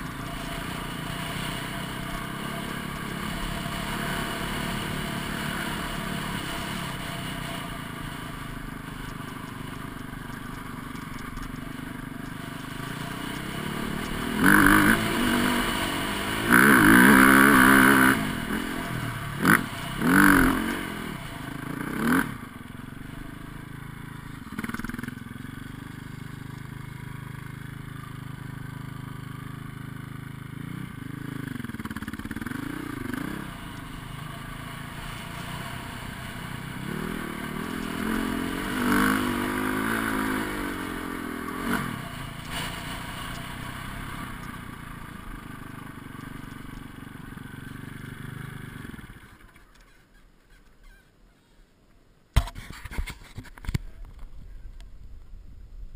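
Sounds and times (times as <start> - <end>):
dirt bike engine revving: 0.0 - 49.6.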